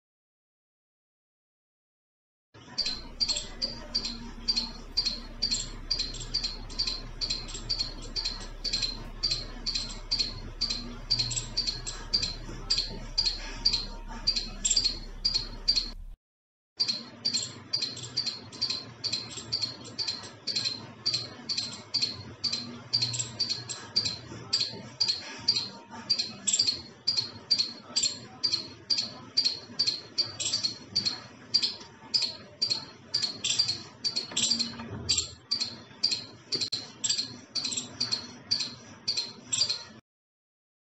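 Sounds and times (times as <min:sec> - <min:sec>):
squirrel chirping: 0:02.8 - 0:16.2, 0:16.8 - 0:40.0.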